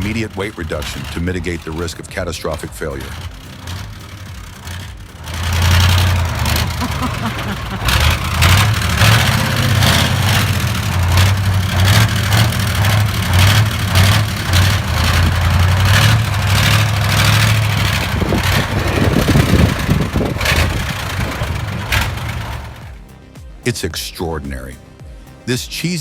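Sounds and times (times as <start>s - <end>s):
knocks and rattles: 0.0s - 23.2s
heavy truck engine running: 0.0s - 23.8s.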